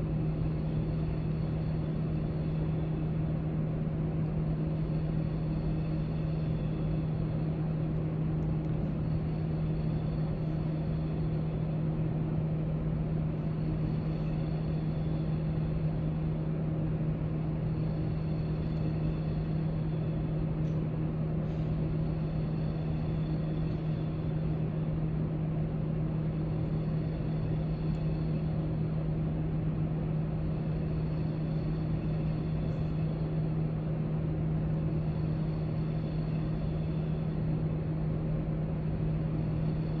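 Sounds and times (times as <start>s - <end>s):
constant low hum: 0.0s - 40.0s.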